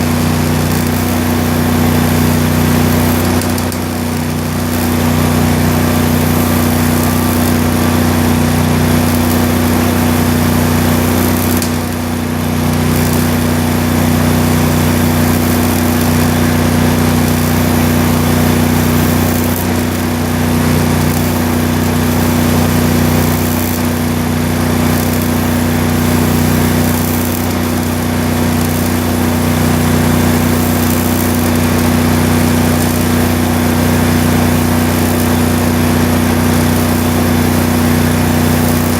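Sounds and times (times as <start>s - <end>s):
welding arc crackling hiss: 0.0s - 38.9s.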